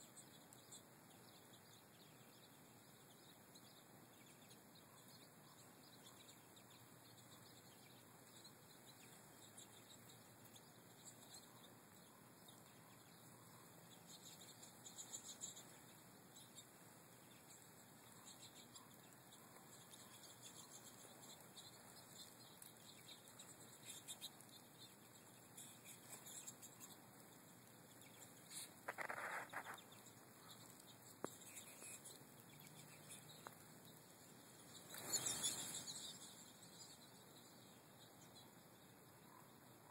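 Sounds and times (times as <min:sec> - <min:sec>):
faint goldfinch twittering: 0:00.0 - 0:39.9
steady hiss: 0:00.0 - 0:39.9.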